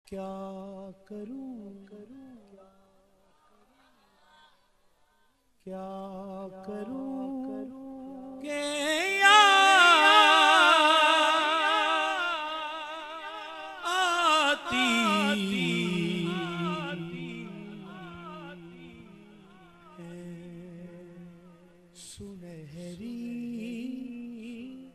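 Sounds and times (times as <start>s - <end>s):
man singing devotional song: 0.0s - 3.0s, 5.6s - 24.9s.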